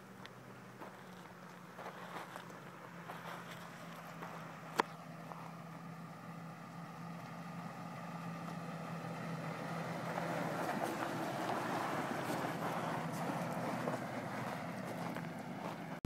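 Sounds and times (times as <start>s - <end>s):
pickup truck engine running: 0.0s - 16.0s
tyres on dirt track: 0.0s - 16.0s.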